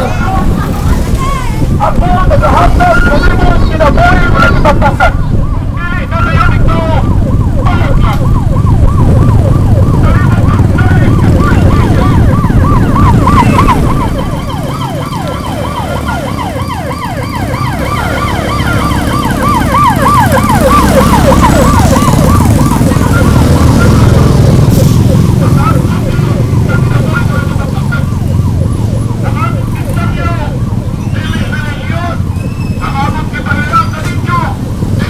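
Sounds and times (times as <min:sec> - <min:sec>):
motorcycle engines running: 0:00.0 - 0:35.0
electronic siren yelping: 0:02.5 - 0:34.7.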